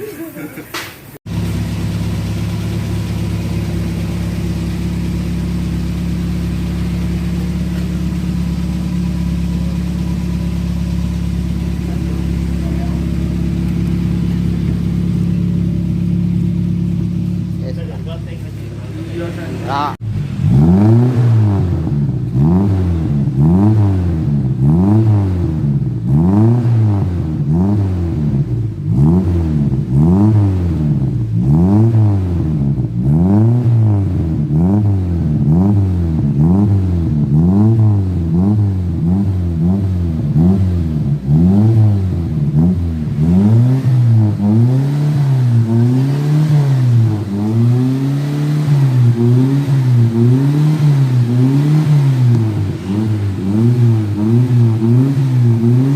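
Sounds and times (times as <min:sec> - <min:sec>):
car engine revving: 0:01.2 - 0:55.9.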